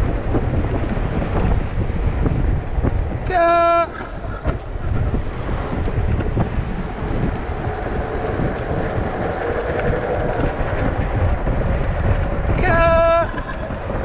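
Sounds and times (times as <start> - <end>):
bike tyres rolling on tarmac: 0.0 - 14.0
wind buffeting microphone: 0.0 - 14.0.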